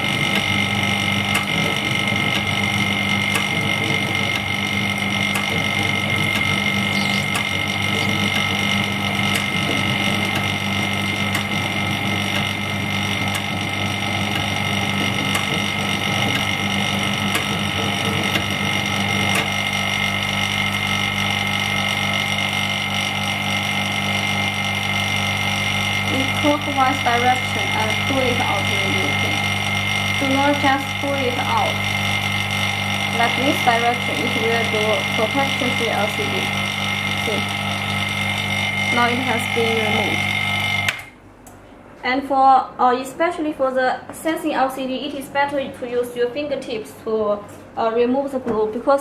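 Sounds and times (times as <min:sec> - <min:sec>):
machine electric hum: 0:00.0 - 0:49.0.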